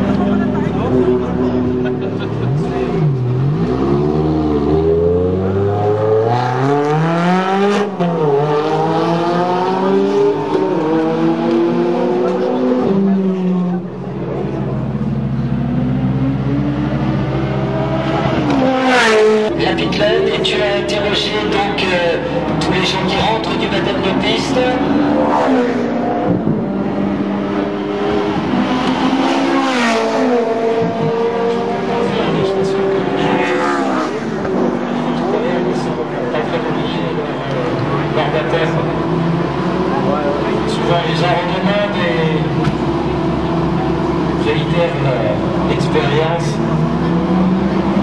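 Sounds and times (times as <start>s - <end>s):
sports car accelerating hard: 0.0s - 48.0s.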